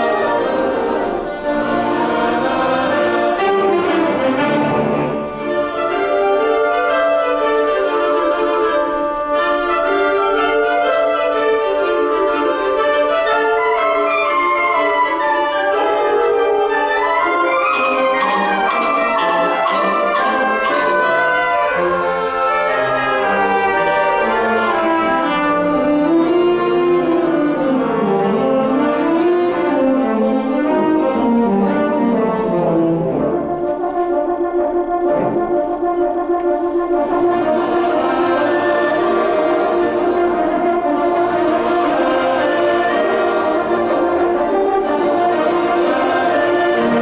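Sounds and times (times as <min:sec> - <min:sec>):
wind band playing: 0:00.0 - 0:47.0.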